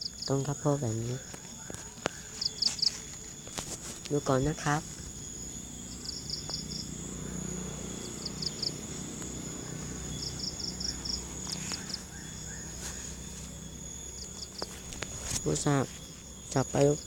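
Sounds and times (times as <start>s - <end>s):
insects chirping rapidly: 0.0s - 17.0s
insects trilling: 0.0s - 17.0s.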